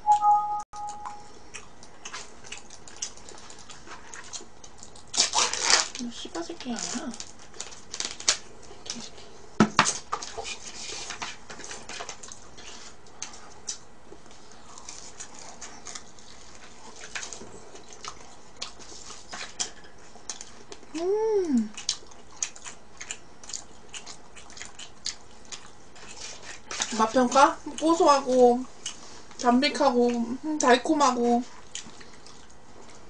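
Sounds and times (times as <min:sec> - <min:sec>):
crunchy chewing and mouth clicks: 0:00.8 - 0:06.0, 0:09.9 - 0:30.2, 0:31.5 - 0:33.0.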